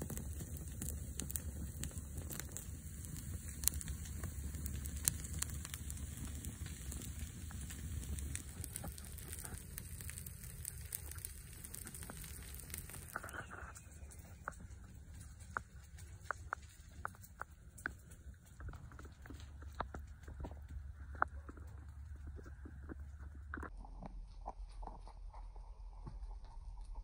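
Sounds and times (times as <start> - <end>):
fire crackling and popping: 0.0 - 23.8
low steady rumble: 0.0 - 27.0.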